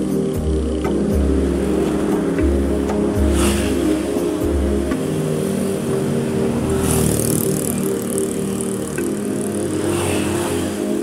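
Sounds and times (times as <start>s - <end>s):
background music: 0.0s - 11.0s
motorbikes passing: 0.0s - 11.0s
truck passing: 0.0s - 11.0s.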